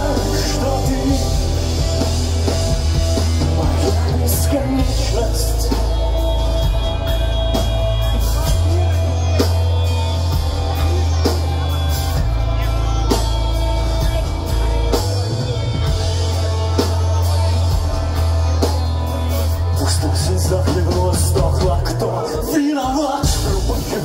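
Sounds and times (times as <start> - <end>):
drum accents: 0.0 - 24.0
rock band playing: 0.0 - 24.0.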